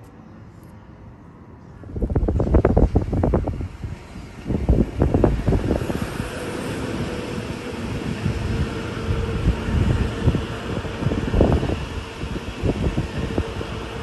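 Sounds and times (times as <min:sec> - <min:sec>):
wind buffeting microphone: 0:01.7 - 0:14.0.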